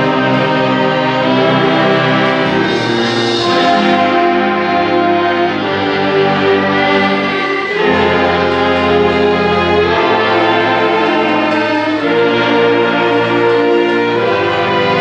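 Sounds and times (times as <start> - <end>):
orchestra playing slow chords: 0.0 - 15.0.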